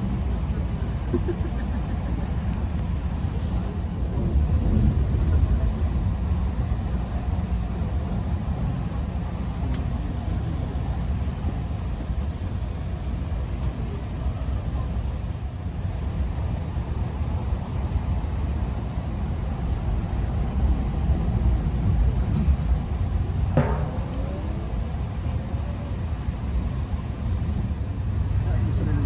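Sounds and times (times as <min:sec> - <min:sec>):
electric train rumble inside car: 0:00.0 - 0:29.0.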